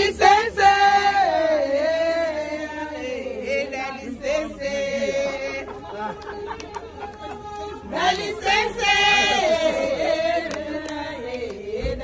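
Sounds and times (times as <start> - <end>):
women singing and chanting: 0.0 - 12.0.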